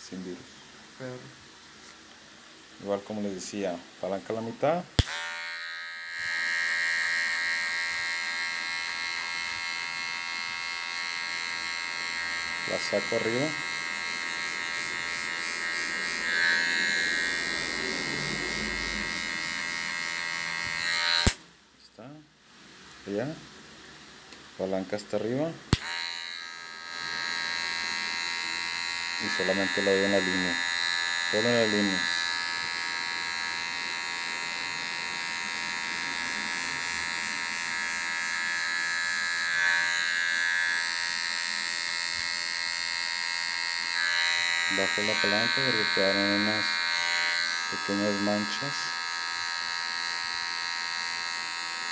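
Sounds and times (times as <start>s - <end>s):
electric hair clipper buzzing: 5.0s - 21.5s, 25.7s - 51.9s.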